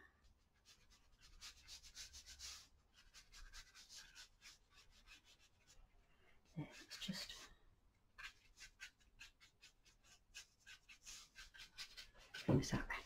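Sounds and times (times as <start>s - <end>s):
brush strokes on paper: 0.2s - 13.0s.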